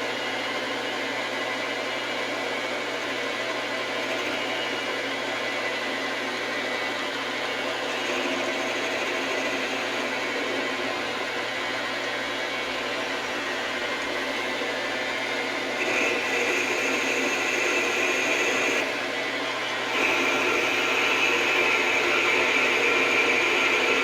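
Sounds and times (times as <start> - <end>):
metal lathe running: 0.1 - 24.0.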